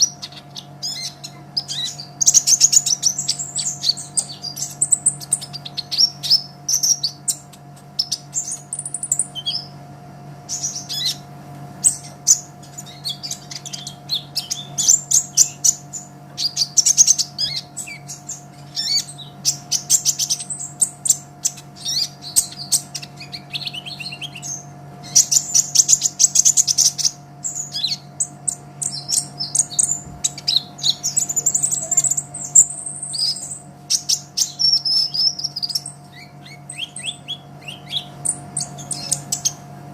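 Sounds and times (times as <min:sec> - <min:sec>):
sunbird chirping and trilling: 0:00.0 - 0:39.8.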